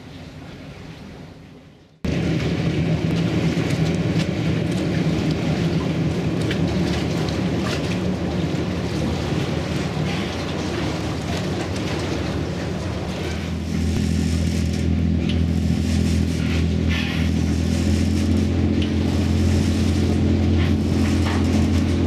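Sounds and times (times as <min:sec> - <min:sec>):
ferry diesel engines droning: 0:00.0 - 0:22.0
wind and water noise: 0:00.0 - 0:22.0.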